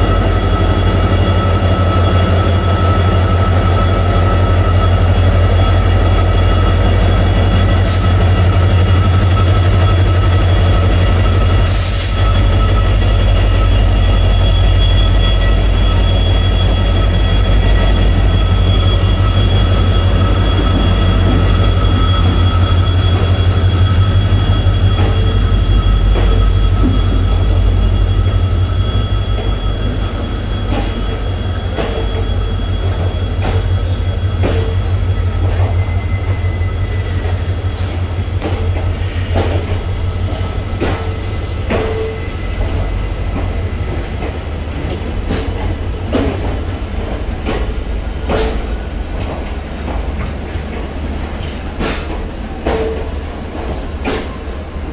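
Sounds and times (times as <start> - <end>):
diesel locomotive engine drone: 0.0 - 54.9
train wheels clicking over rail joints: 0.1 - 54.9.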